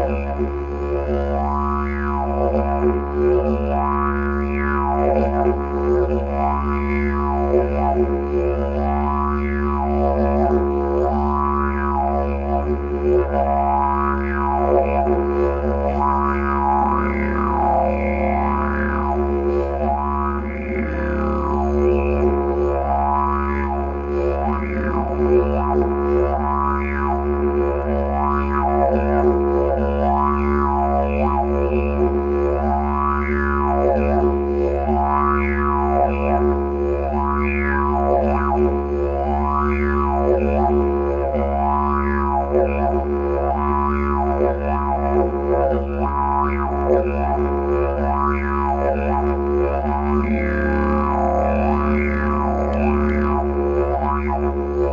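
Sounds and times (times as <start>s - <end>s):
didgeridoo low drone: 0.0s - 54.9s.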